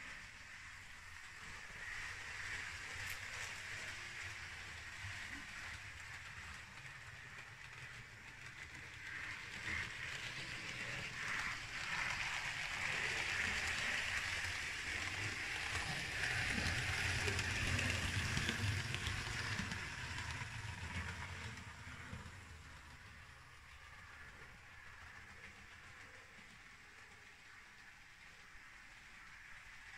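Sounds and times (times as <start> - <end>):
model train running on track: 0.0 - 29.9.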